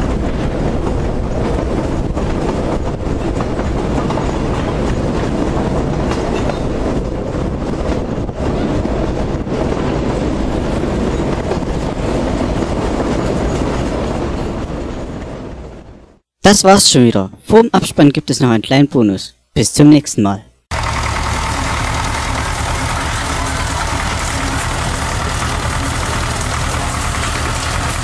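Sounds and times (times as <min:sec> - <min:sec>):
wheels clattering over rail joints: 0:00.0 - 0:15.3, 0:20.7 - 0:28.0
train wheels rumbling on track: 0:00.0 - 0:16.2, 0:20.7 - 0:28.0.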